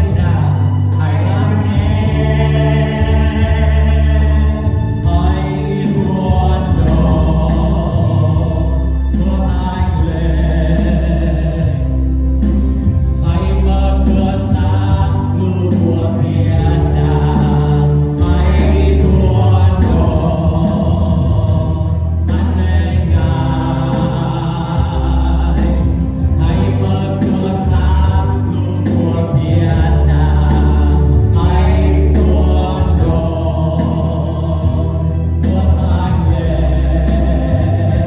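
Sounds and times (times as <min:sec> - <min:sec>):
band with bass and beat: 0:00.0 - 0:38.0
group singing worship song: 0:00.0 - 0:38.0.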